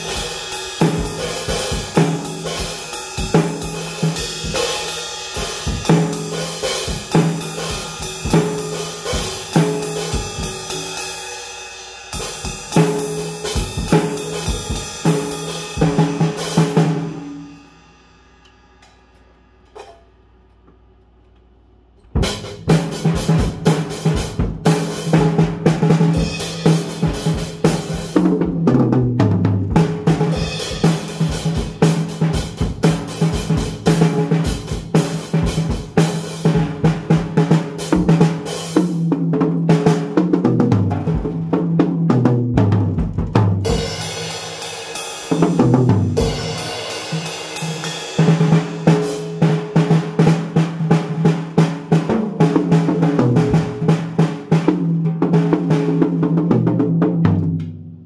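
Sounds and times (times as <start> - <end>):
acoustic drum kit playing: 0.0 - 20.3, 22.0 - 58.0.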